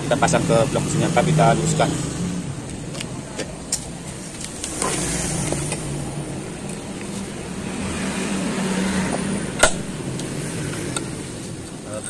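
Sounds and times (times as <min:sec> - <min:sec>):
low hum of vehicle noise: 0:00.0 - 0:12.0.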